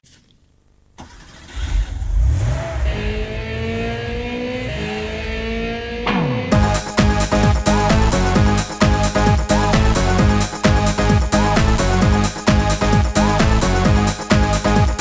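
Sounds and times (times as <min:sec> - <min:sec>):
car engine revving: 0:01.4 - 0:15.0.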